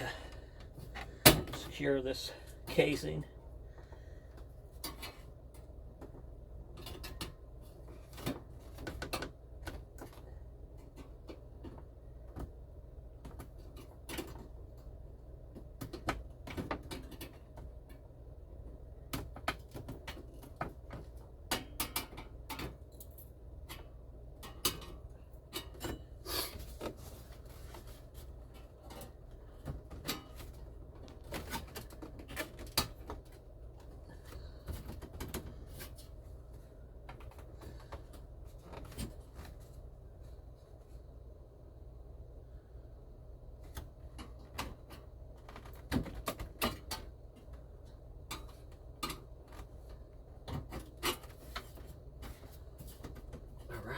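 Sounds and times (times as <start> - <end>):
steady low hum: 0.0 - 53.9
clicks and rattles of plastic parts: 3.8 - 40.4, 43.5 - 53.8.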